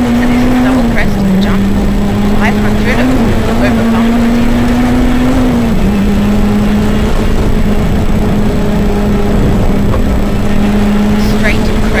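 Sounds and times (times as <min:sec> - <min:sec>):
car engine at high revs: 0:00.0 - 0:12.0
tyre road noise: 0:00.0 - 0:12.0.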